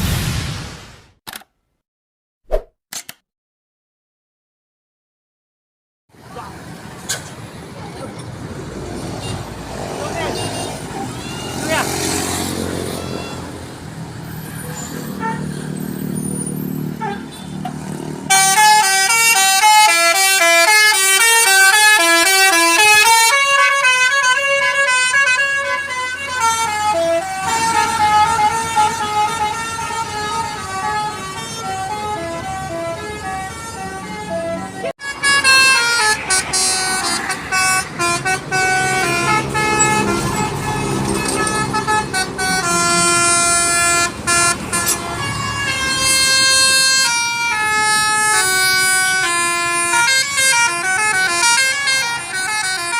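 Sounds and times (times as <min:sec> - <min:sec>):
multi-tone bus horn melodies: 0:09.0 - 0:52.9.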